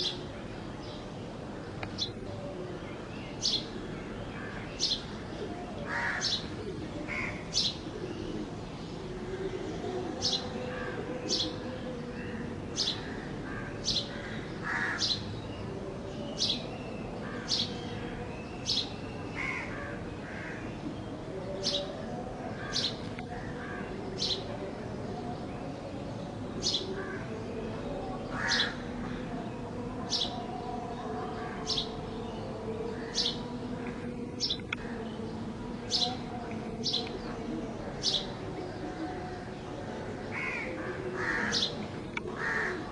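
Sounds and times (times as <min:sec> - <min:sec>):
harsh bird calls: 0:00.0 - 0:24.7, 0:28.2 - 0:30.4, 0:31.3 - 0:42.9.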